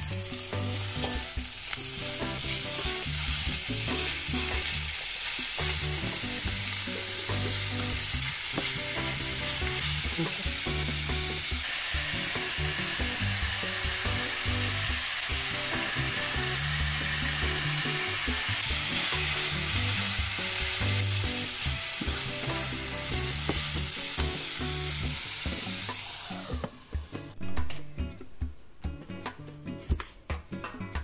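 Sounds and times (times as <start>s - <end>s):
meat sizzling in a frying pan: 0.0s - 26.6s
soft background music: 0.0s - 31.0s.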